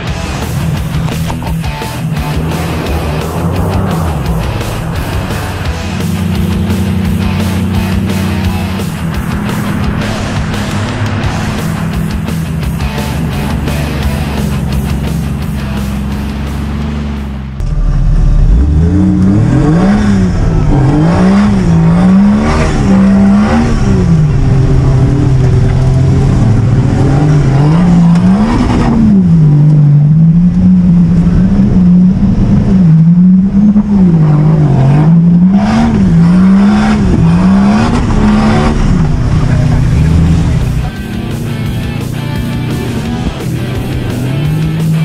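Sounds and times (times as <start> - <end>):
engine revving hard: 0.0 - 45.0.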